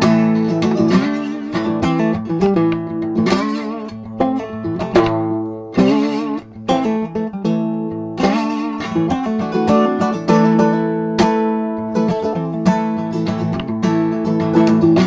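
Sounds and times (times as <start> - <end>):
slide acoustic guitar: 0.0 - 15.0.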